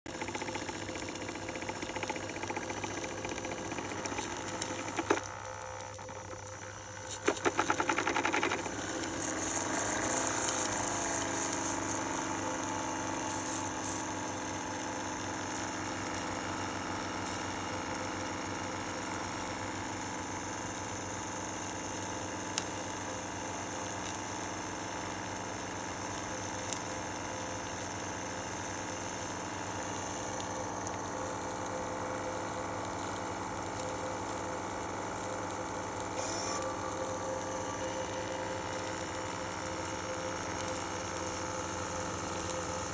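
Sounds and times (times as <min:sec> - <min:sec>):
model steam engine running: 0:00.1 - 0:42.9.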